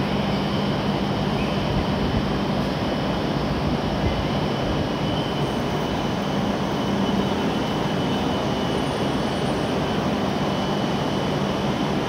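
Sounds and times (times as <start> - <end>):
thin high whine: 0.0 - 12.0
train equipment whirring hum: 0.0 - 12.0.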